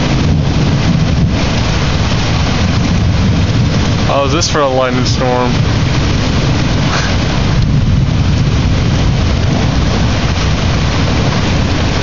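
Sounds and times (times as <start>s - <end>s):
heavy rain: 0.0s - 12.0s
wind rumbling on microphone: 0.0s - 12.0s.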